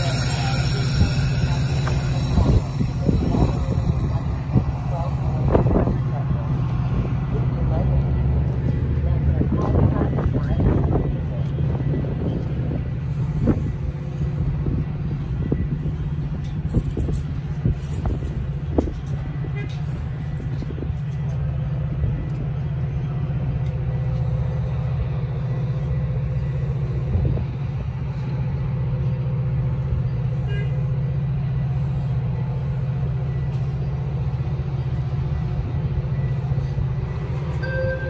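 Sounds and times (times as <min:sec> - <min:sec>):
train idling low hum: 0:00.0 - 0:38.0.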